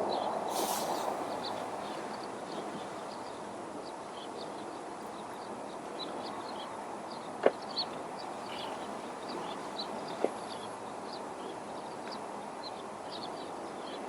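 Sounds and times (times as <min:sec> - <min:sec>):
small birds chirping: 0:00.0 - 0:14.0
steady background hiss: 0:00.0 - 0:14.0.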